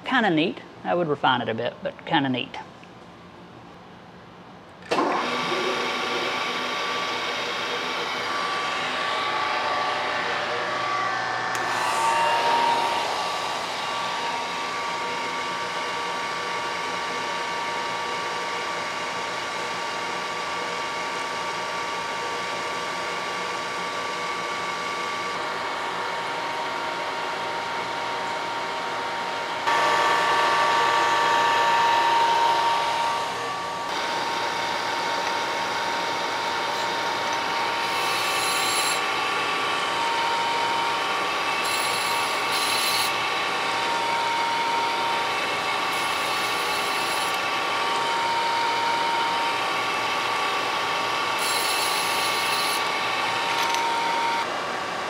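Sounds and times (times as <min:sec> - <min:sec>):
surface grinder motor whirring: 0:04.9 - 0:19.5, 0:23.6 - 0:54.5.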